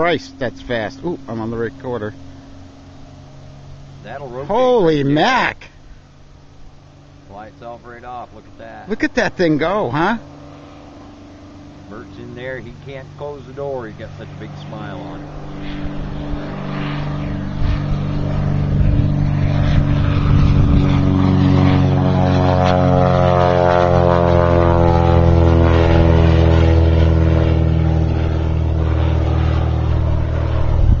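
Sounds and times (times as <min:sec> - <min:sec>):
light aircraft engine and propeller: 0:00.0 - 0:31.0.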